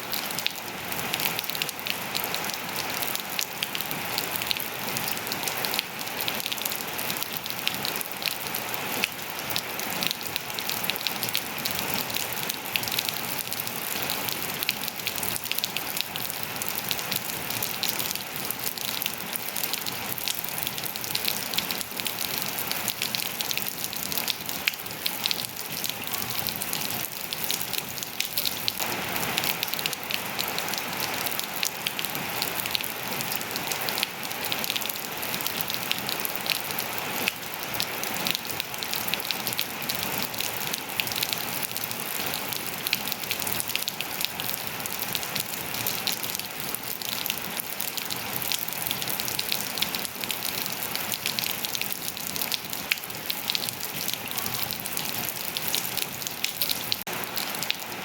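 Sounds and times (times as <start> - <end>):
rain pattering on hard surfaces: 0.0 - 58.0.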